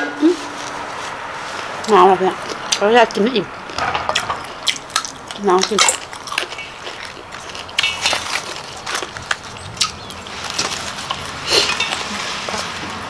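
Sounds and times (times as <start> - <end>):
leafy greens rustling: 0.0 - 3.8, 4.4 - 13.0
chewing and crunching vegetables: 1.0 - 13.0.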